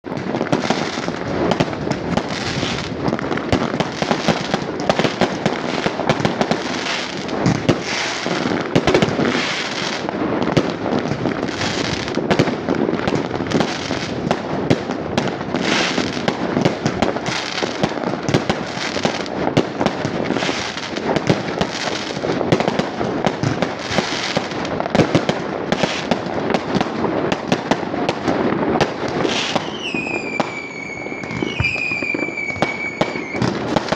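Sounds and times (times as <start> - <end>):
fireworks bangs and crackles: 0.0 - 33.9.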